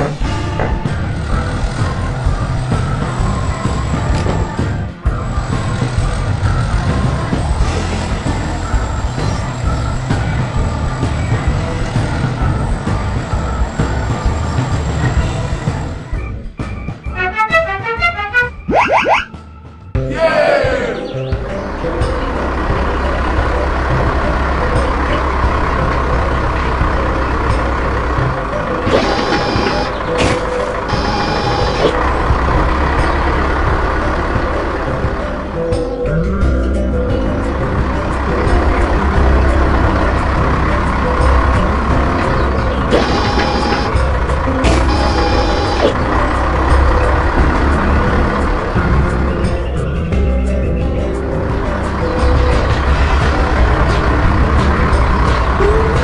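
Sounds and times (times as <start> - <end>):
heavy machine engine running: 0.0 - 18.4, 21.5 - 56.0
background music: 0.0 - 56.0.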